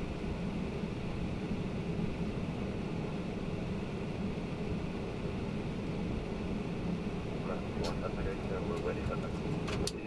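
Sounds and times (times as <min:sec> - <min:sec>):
aircraft cockpit hum with hiss: 0:00.0 - 0:10.0.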